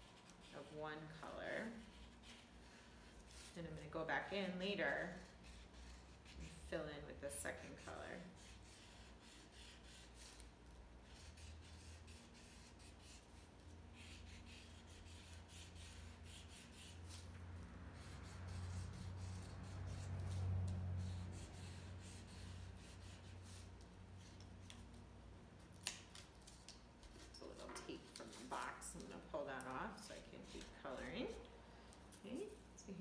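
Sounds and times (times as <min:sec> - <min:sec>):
marker scratching on cardboard: 0:00.0 - 0:24.9, 0:27.1 - 0:31.4.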